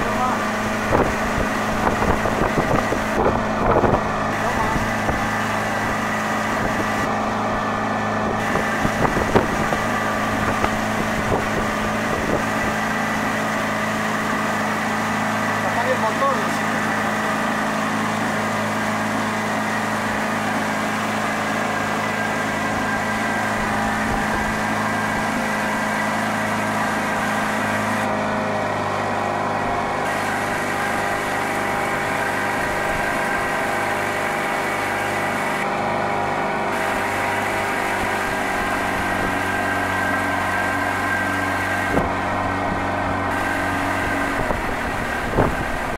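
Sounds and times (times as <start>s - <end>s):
motorboat engine running: 0.0s - 45.9s
water noise: 0.0s - 45.9s.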